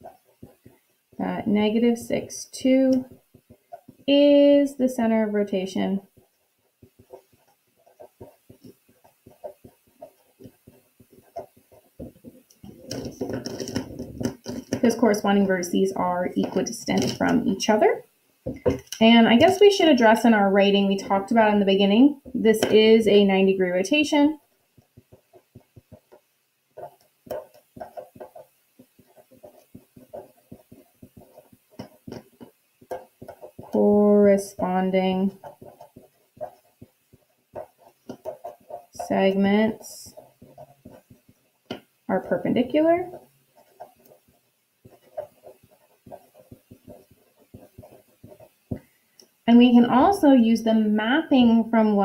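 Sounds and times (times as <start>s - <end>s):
pen scratching on paper: 0.0s - 17.6s, 18.6s - 49.4s.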